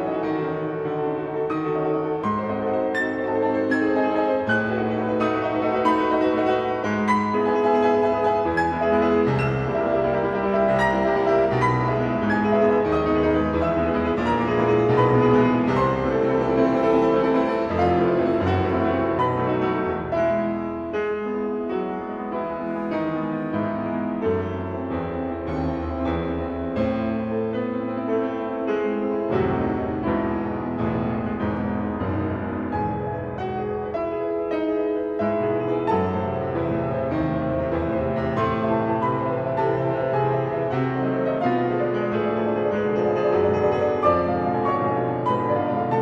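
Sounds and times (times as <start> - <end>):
solo classical piano: 0.0 - 46.0.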